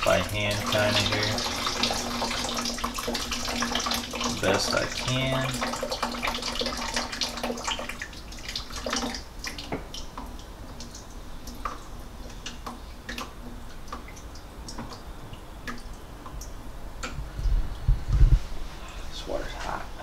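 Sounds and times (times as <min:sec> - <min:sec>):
water dripping into a steel sink: 0:00.0 - 0:17.8.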